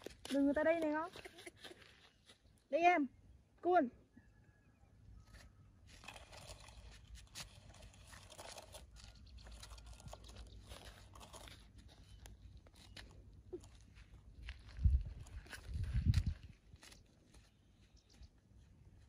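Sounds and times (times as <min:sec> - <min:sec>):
footsteps crunching on dry grass: 0:00.0 - 0:02.5, 0:05.3 - 0:19.0.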